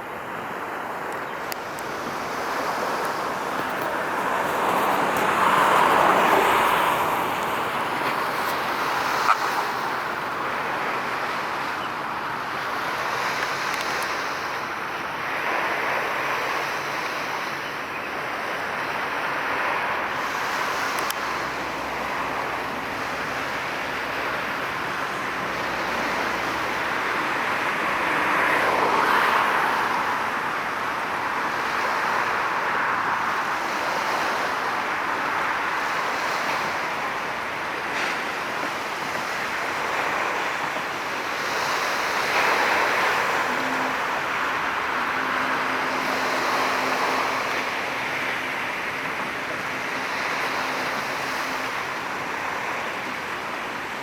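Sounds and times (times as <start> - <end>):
distant road traffic: 0.0 - 54.0.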